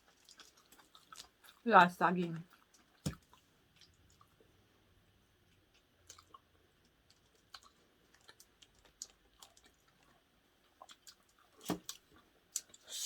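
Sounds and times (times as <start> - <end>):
person chewing: 0.0 - 1.6, 2.4 - 4.6, 5.4 - 13.0.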